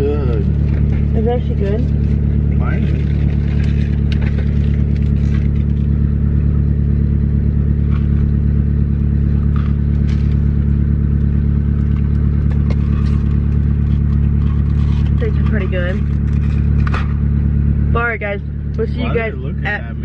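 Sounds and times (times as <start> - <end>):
car engine drone: 0.0 - 20.0.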